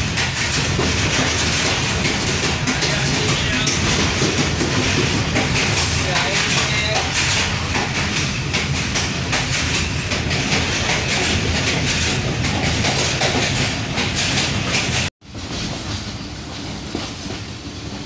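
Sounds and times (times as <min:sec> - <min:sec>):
wheel clicks and knocks: 0:00.0 - 0:15.1
train carriage rumble and rattle: 0:00.0 - 0:18.0.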